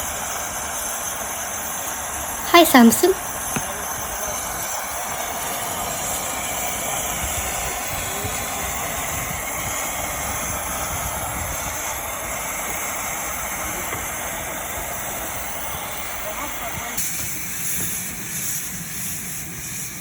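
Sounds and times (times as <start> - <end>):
steam locomotive hissing steam: 0.0 - 20.0.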